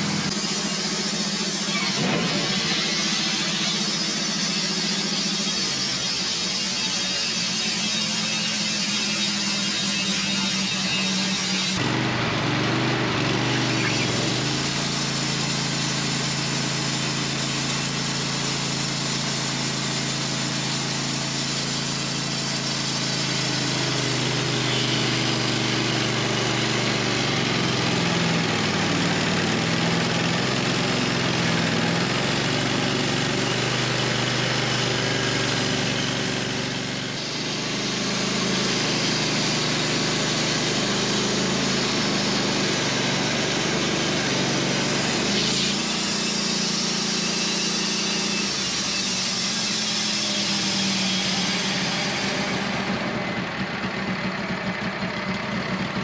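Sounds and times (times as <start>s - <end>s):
band sawmill sawing log: 0.0s - 56.0s.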